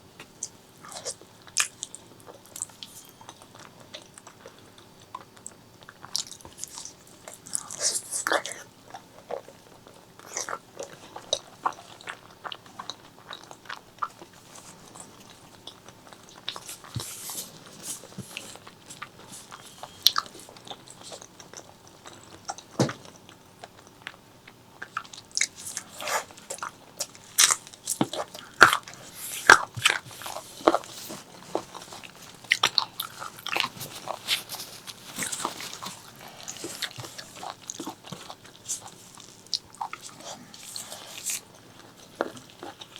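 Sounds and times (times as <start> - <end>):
chewing with sharp clicks: 0.2 - 42.9.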